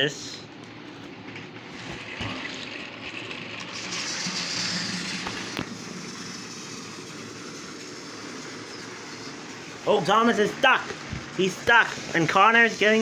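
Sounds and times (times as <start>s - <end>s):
toy train motors whirring: 1.8s - 13.0s.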